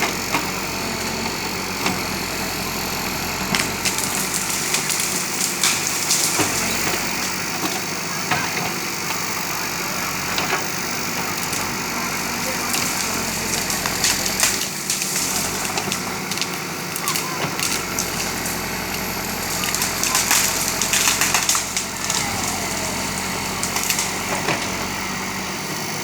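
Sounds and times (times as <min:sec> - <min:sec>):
diesel engine running: 0:00.0 - 0:26.0
wood cracking and splintering: 0:00.0 - 0:26.0.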